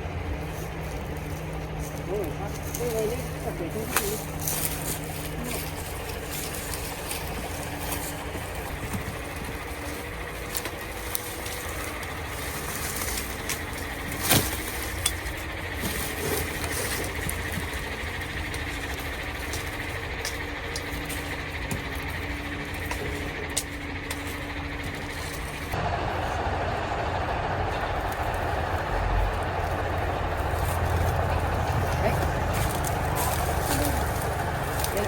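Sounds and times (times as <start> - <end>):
motor engine running: 0.0 - 35.0.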